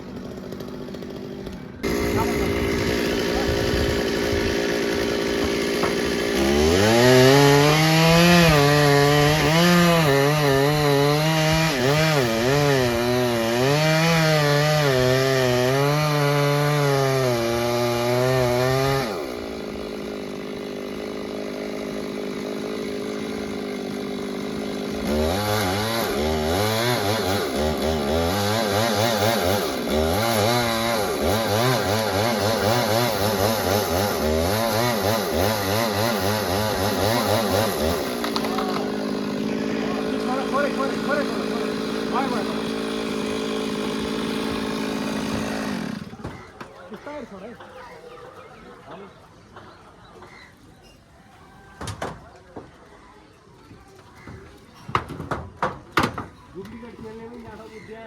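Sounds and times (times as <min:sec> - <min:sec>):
chainsaw idling: 0:00.0 - 0:46.5
chainsaw cutting wood: 0:00.0 - 0:46.7.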